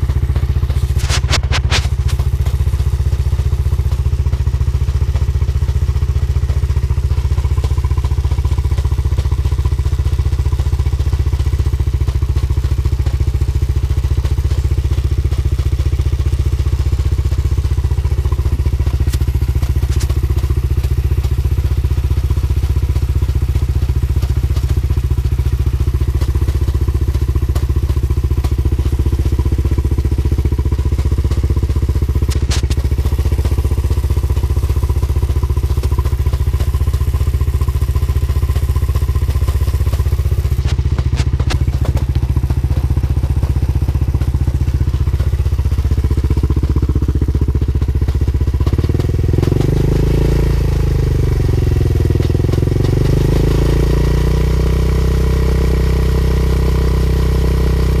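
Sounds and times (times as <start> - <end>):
motorcycle engine rumbling: 0.0 - 58.0.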